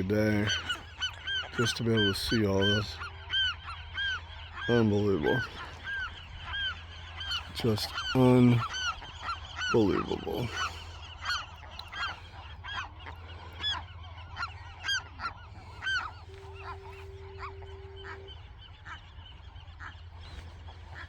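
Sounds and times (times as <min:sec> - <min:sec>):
faint steady tone: 0:00.0 - 0:21.0
gulls calling: 0:00.0 - 0:21.0
steady low hum: 0:00.0 - 0:21.0.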